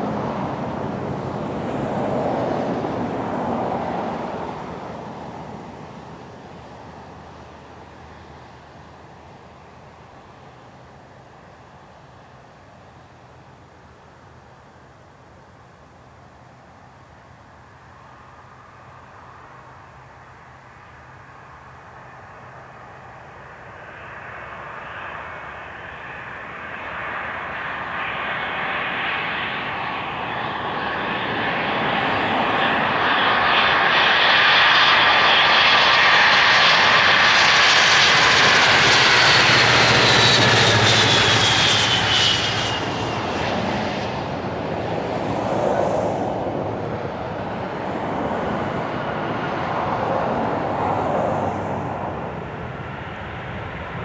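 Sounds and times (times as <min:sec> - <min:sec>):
jet engines whine and rumble: 0:00.0 - 0:54.0.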